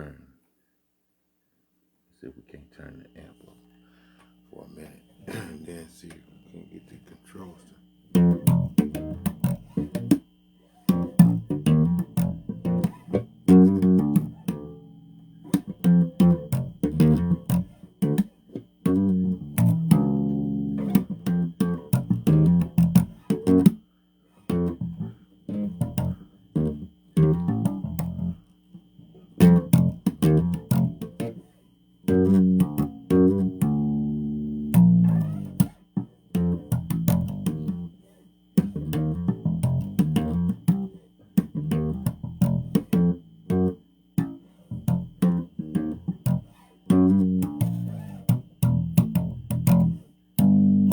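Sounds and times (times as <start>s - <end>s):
faint amplifier hum: 0.0s - 50.9s
electric bass guitar: 8.1s - 23.8s, 24.4s - 38.0s, 38.6s - 50.9s.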